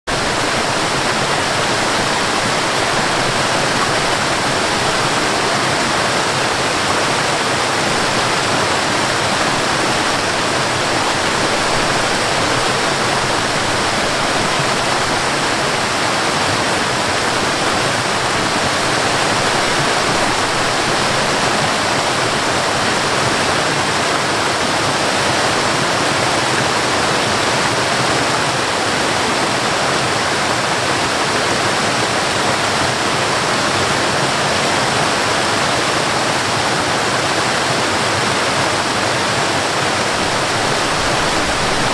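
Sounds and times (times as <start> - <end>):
waterfall rushing over rocks: 0.1 - 41.9.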